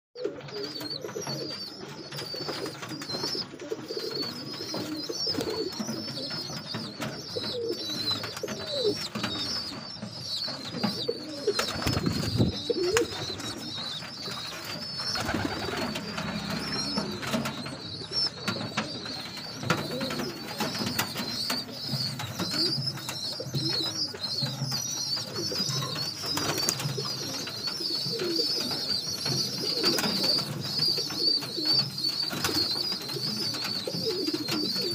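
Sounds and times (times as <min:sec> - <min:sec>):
pigeons cooing: 0:00.2 - 0:34.9
high-pitched chirping: 0:00.8 - 0:34.9.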